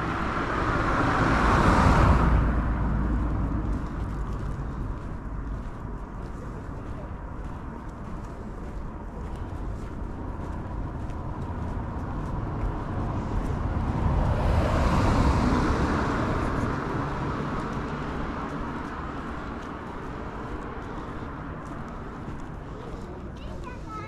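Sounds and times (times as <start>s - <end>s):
vehicle driving past: 0.0s - 6.7s, 9.4s - 23.2s.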